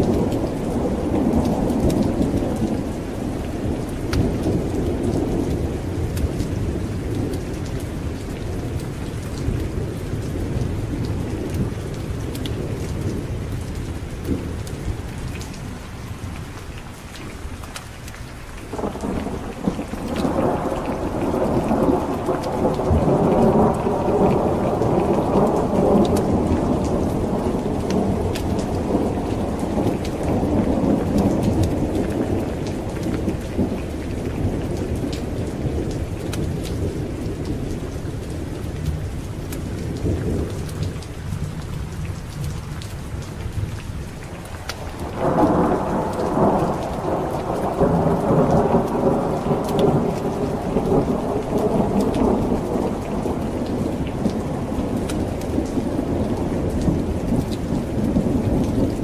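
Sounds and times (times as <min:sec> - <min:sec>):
rolling thunder: 0:00.0 - 0:15.4, 0:18.7 - 0:59.0
heavy rain: 0:00.0 - 0:59.0.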